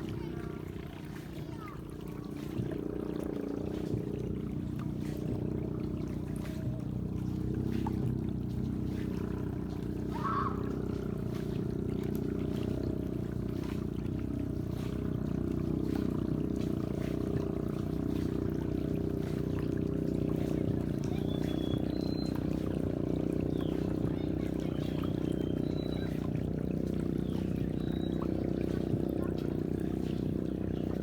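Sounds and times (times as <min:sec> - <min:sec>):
boat engine droning: 0:00.0 - 0:31.0
water splashing along hull: 0:00.0 - 0:31.0.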